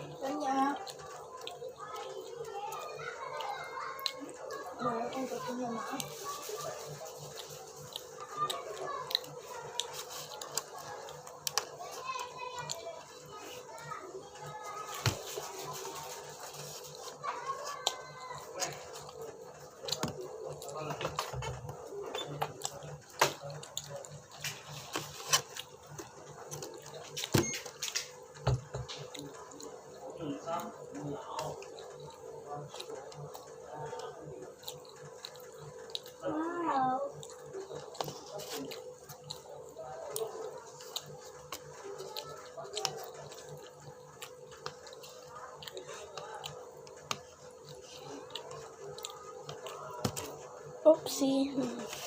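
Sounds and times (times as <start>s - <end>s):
person chewing: 0.0s - 28.1s, 30.5s - 36.2s, 37.1s - 50.8s.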